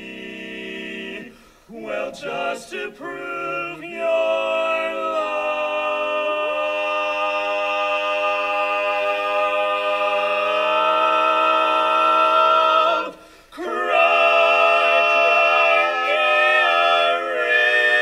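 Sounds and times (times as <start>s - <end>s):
quartet singing a cappella harmony: 0.0s - 18.0s.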